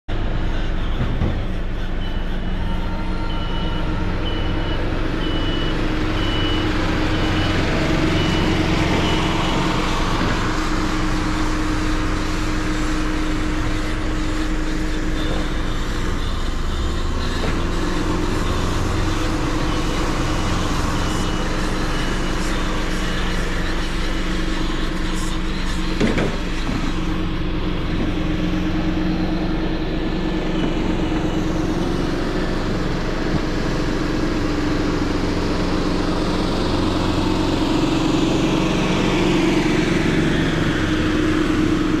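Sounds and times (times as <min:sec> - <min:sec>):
tractor engine running: 0:00.1 - 0:42.0.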